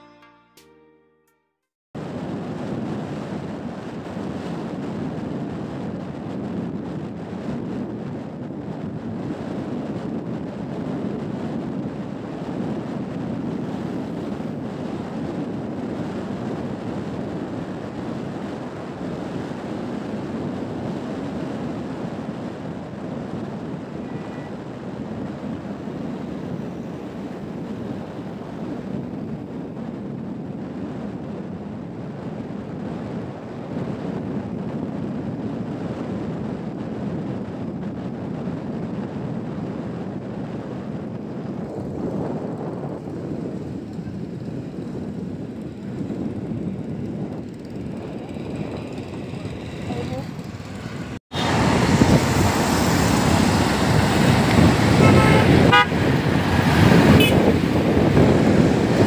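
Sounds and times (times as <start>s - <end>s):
tyre and wind noise: 2.0s - 59.0s.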